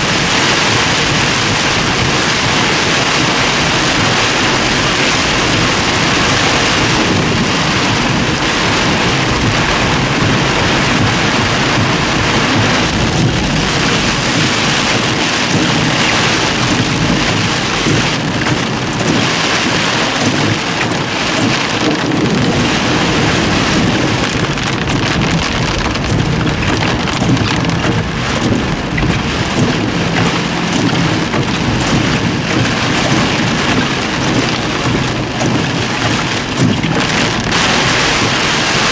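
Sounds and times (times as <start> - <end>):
torrential rain pouring: 0.0 - 38.9.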